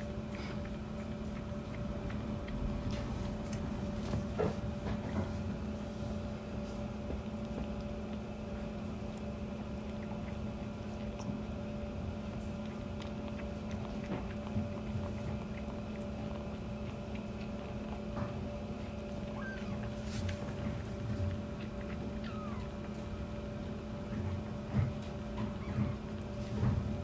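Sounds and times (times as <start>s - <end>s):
kitten sucking from bottle: 0.0s - 27.0s
steady low hum: 0.0s - 27.0s.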